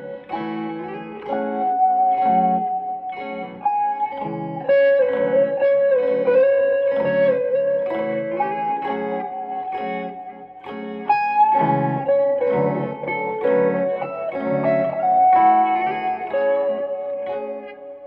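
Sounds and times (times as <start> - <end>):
electric guitar slow melody: 0.0 - 18.0.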